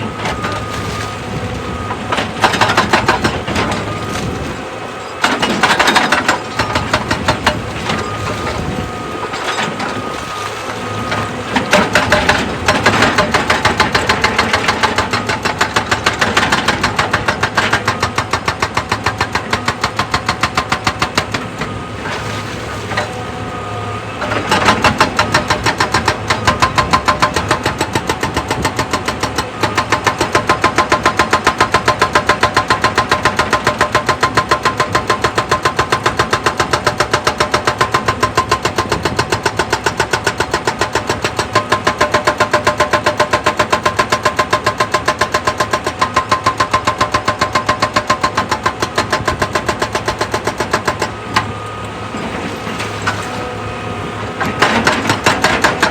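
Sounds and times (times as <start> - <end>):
excavator engine pulsing: 0.0 - 55.9.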